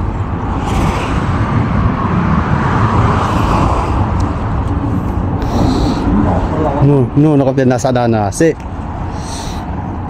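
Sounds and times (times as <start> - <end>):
traffic rumble on bridge: 0.0 - 10.0.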